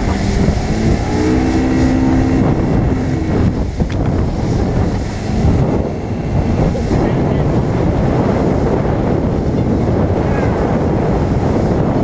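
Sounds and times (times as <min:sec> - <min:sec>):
outboard motor running: 0:00.0 - 0:12.0
water rushing along hull: 0:00.0 - 0:12.0
wind buffeting microphone: 0:00.0 - 0:12.0.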